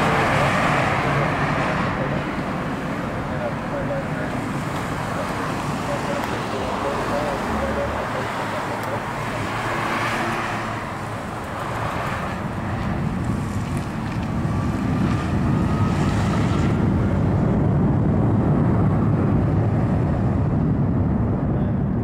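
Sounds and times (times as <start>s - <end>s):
distant jet engines rumbling: 0.0s - 22.0s
wind buffeting microphone: 0.0s - 22.0s.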